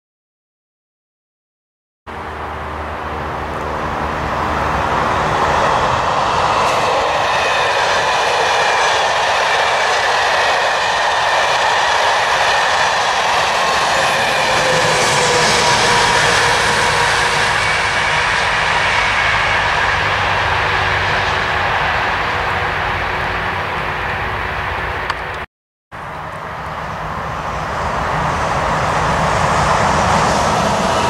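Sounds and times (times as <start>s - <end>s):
train wheels rumbling on rail: 2.1s - 31.0s.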